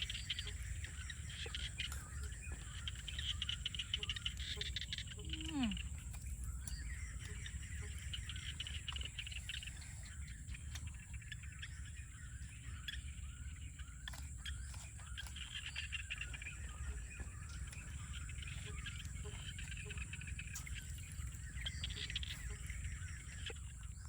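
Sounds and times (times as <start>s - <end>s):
birds chirping: 0.0s - 24.0s
steady high-pitched hum: 0.0s - 24.0s.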